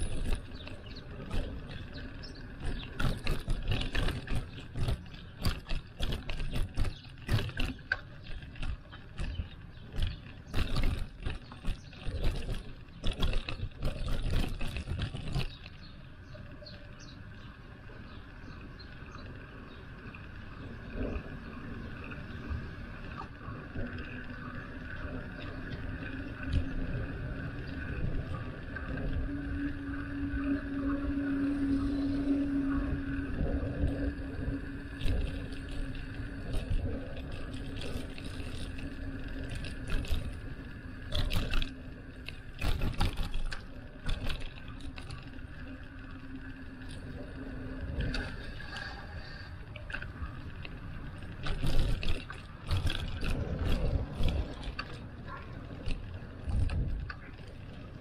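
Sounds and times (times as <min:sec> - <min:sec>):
bicycle knocks and rattles: 0:00.0 - 0:58.0
bicycle riding rumble: 0:00.0 - 0:58.0.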